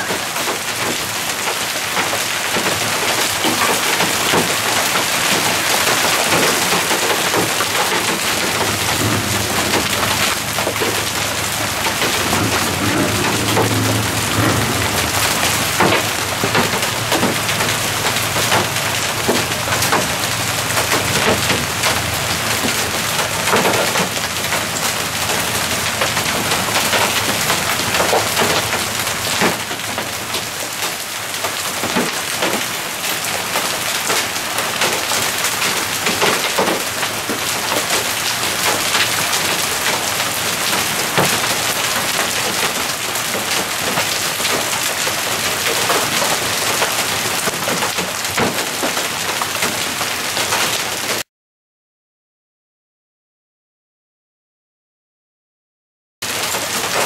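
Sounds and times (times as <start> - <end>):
hail and rain pelting down: 0.0 - 51.2, 56.2 - 57.0.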